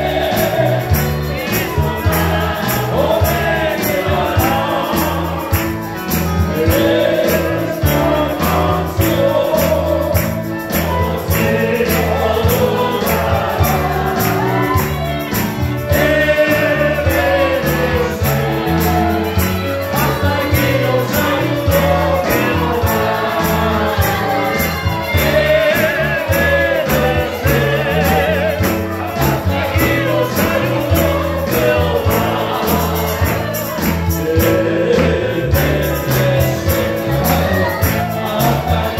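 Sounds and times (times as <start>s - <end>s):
band playing: 0.0s - 38.9s
voices singing: 0.0s - 38.9s.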